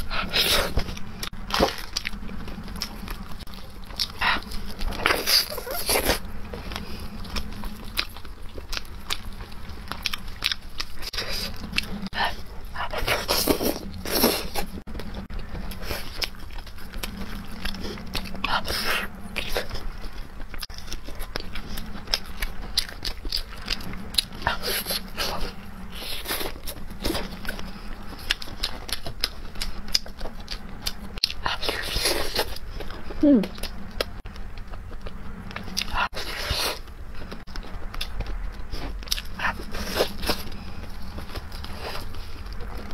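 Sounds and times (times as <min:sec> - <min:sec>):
close chewing and mouth sounds: 0:00.0 - 0:42.9.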